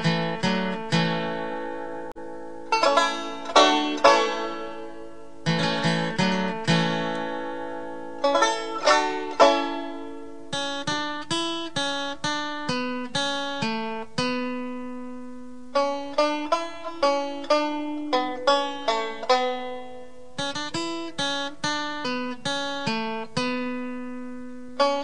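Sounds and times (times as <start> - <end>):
plucked-string instrumental music: 0.0 - 25.0.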